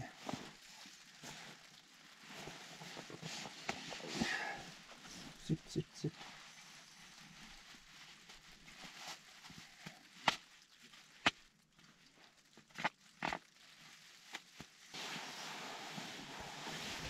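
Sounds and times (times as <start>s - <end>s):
steady rustling hiss: 0.0s - 12.7s, 13.6s - 17.0s
puffer jacket crinkling and swishing: 0.0s - 17.0s.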